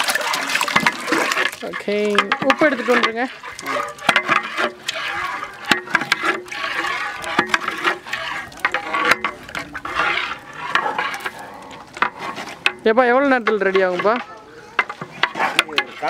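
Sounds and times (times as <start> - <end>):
metal rod scraping a pot: 0.0 - 16.0
thick liquid sloshing: 0.0 - 16.0.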